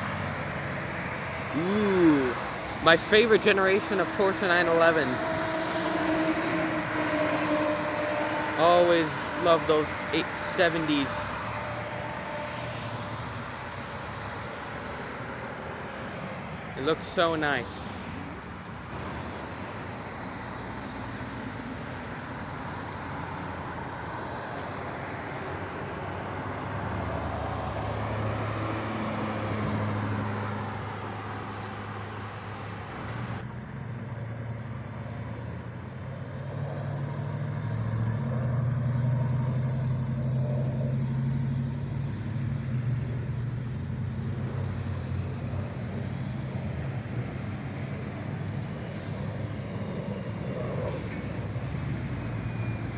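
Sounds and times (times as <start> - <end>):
cars driving past: 0.0 - 52.9.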